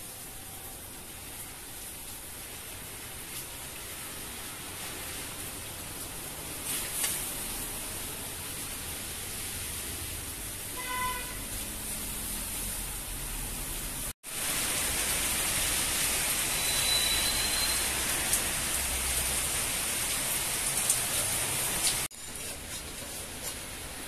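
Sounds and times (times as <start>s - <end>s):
rain hissing: 0.0s - 24.0s.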